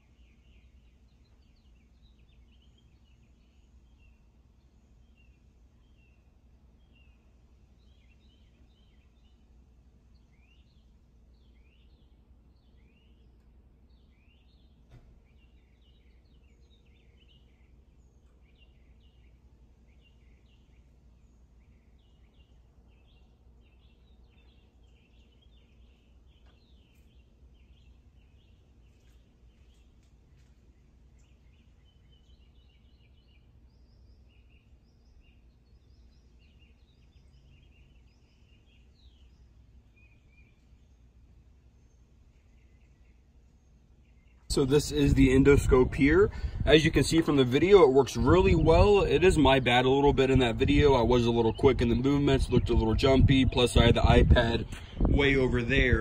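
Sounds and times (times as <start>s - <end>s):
birds chirping: 0.0s - 56.0s
low background rumble: 0.0s - 56.0s.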